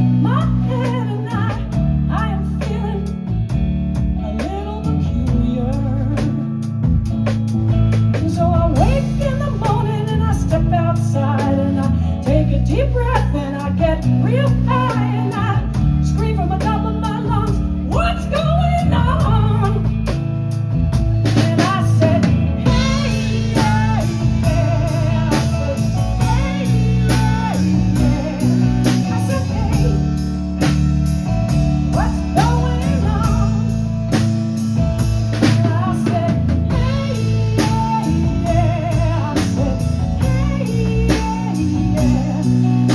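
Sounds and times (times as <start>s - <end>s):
bending lead guitar line: 0.0s - 42.9s
drum kit beat: 0.0s - 42.9s
live blues band playing: 0.0s - 42.9s.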